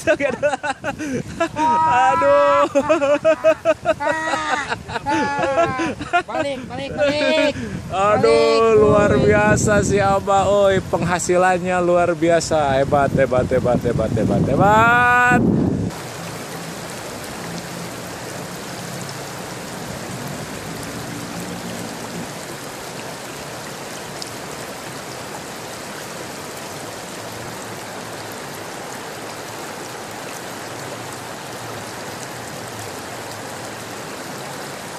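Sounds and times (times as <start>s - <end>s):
river water rushing: 0.0s - 13.1s, 14.6s - 34.9s.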